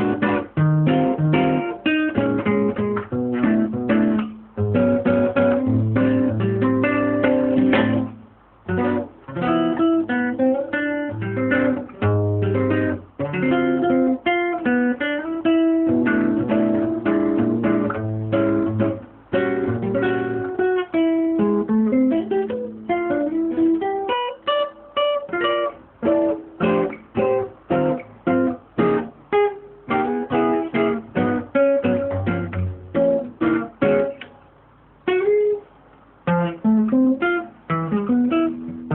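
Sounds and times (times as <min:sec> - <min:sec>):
acoustic guitar playing: 0:00.0 - 0:38.9.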